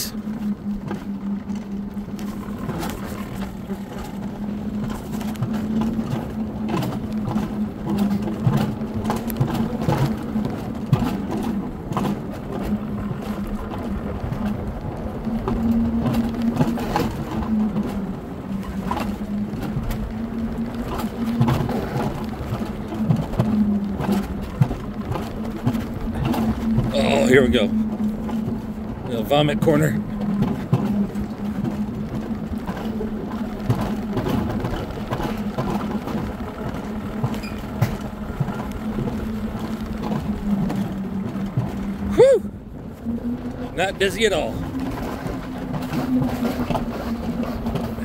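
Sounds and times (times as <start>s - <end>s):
coaster wheels droning: 0.0s - 48.0s
sled clicking and rattling on track: 0.0s - 48.0s.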